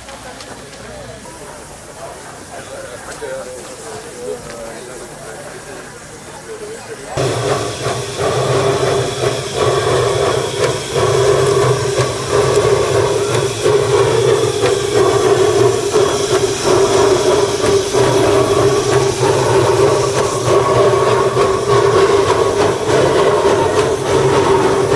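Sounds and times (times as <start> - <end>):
steam hissing: 0.0 - 24.9.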